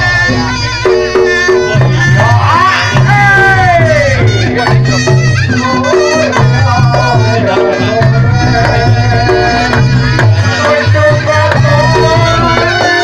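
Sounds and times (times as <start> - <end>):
fast hand drum strokes: 0.0 - 13.0
reedy melody: 0.0 - 13.0.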